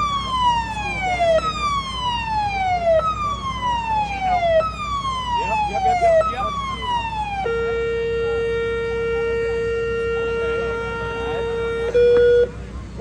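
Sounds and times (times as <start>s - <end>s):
electronic siren wail and buzz: 0.0s - 12.6s.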